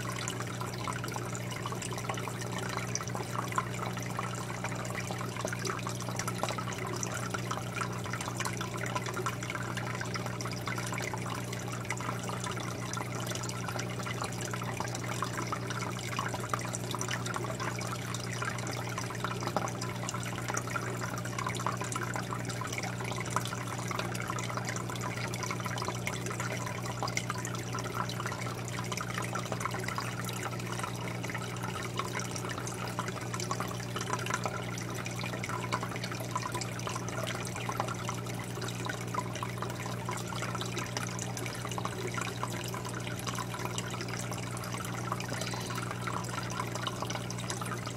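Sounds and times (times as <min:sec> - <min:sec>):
aquarium water trickling: 0:00.0 - 0:47.9.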